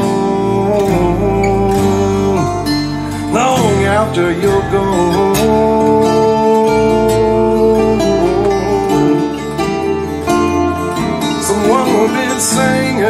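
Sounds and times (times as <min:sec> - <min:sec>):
country song with acoustic guitar: 0:00.0 - 0:13.0.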